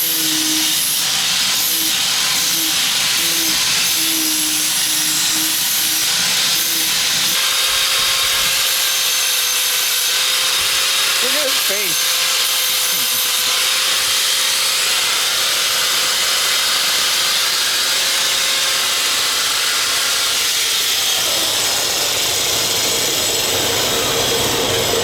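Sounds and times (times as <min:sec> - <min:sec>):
power grinder grinding metal: 0:00.0 - 0:25.0.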